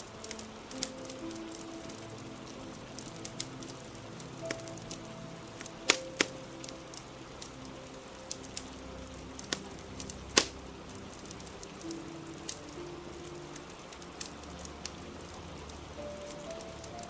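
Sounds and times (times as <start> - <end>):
fire crackling: 0.0 - 17.0
rain hissing: 0.0 - 17.0.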